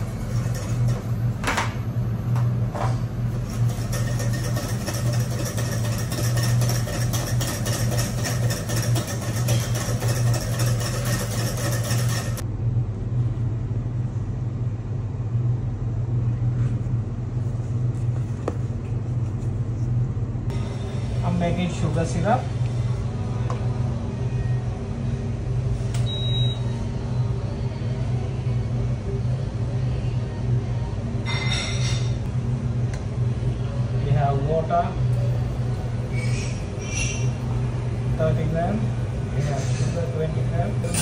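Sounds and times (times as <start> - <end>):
low hum of kitchen machinery: 0.0 - 41.0.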